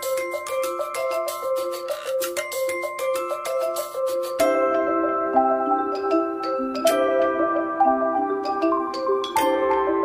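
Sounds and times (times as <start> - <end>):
mallet percussion tune: 0.0 - 10.0.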